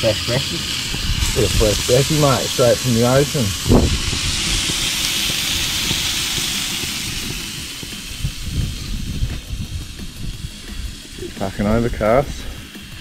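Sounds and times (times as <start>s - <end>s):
fish sizzling on a barbecue plate: 0.0s - 13.0s
irregular low rumble: 0.6s - 13.0s.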